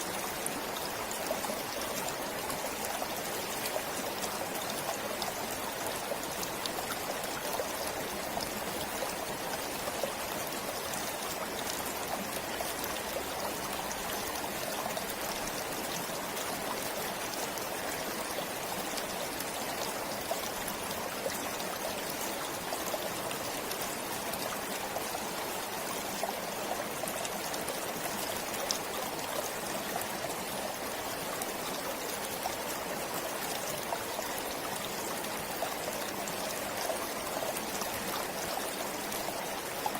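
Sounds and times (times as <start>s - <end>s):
stream flowing: 0.0s - 39.9s
water splashes and trickles: 0.0s - 39.9s.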